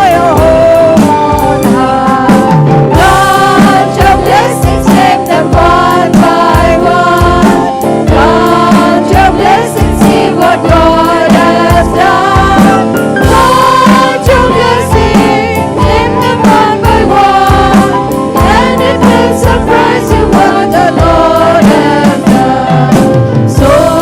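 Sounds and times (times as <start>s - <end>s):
band playing: 0.0s - 24.0s
steady drum beat: 0.0s - 24.0s
voices singing together: 0.0s - 24.0s.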